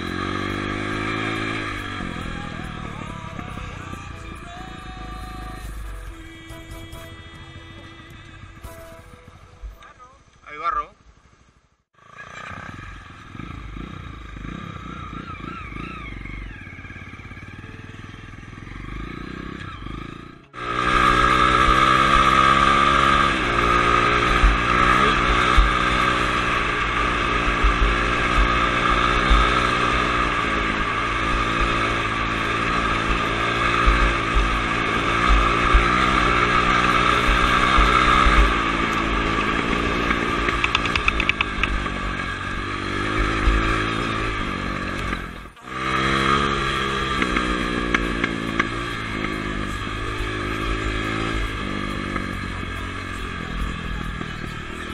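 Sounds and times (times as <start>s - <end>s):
dirt bike engine running: 0.0s - 10.0s, 11.0s - 54.9s.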